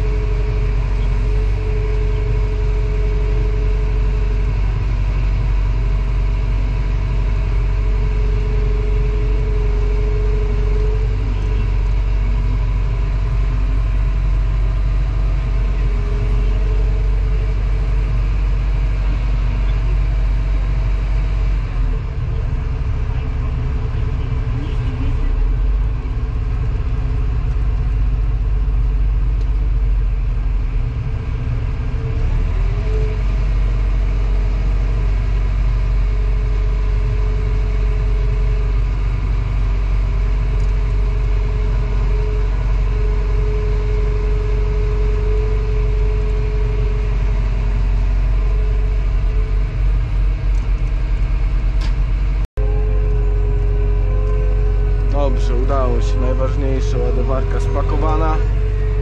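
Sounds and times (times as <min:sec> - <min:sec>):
engine whine rising in pitch: 0:00.0 - 0:59.0
excavator diesel engine rumble: 0:00.0 - 0:59.0.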